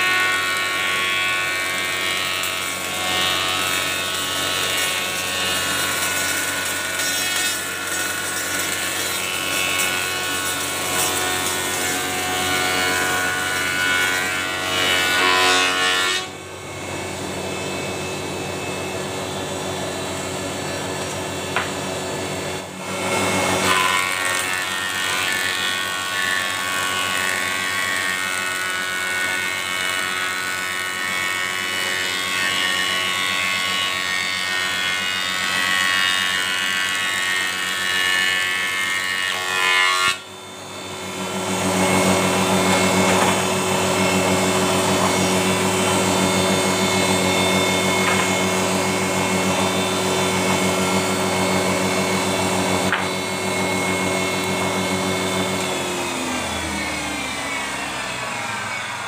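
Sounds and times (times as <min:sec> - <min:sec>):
planer whining: 0:00.0 - 0:59.0.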